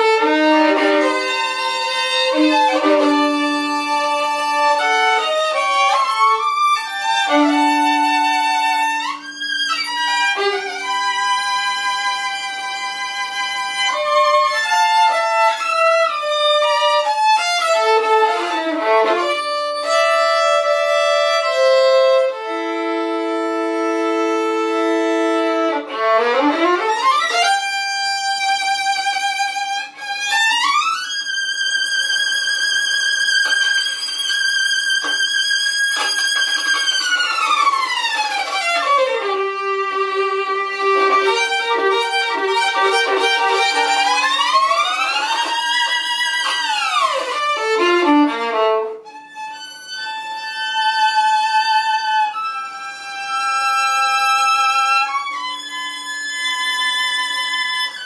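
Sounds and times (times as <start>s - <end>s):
solo violin played with bow: 0.0s - 58.0s.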